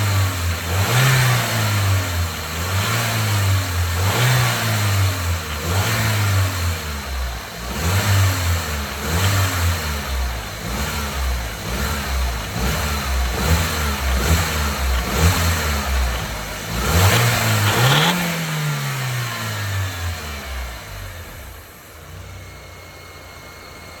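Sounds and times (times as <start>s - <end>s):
car engine revving: 0.0s - 24.0s
engine rattle: 0.0s - 24.0s.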